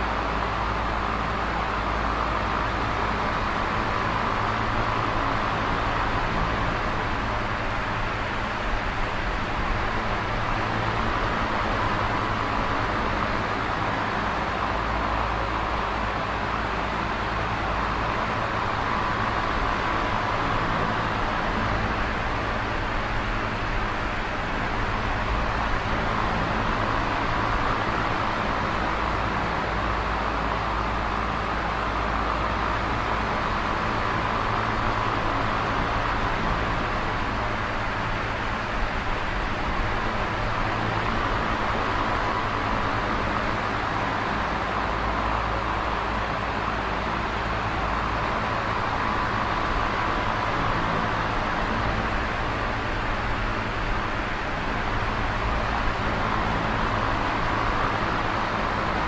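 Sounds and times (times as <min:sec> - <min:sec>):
electric fan whooshing: 0:00.0 - 0:59.0.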